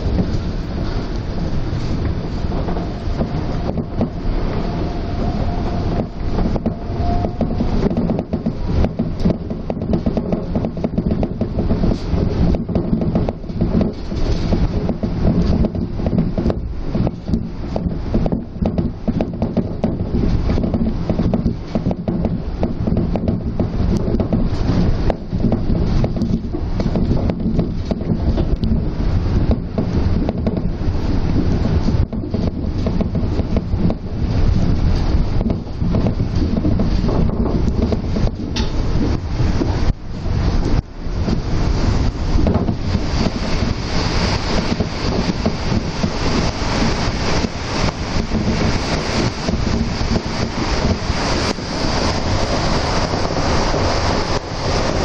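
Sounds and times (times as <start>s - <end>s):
monorail running rumble: 0.0s - 55.0s.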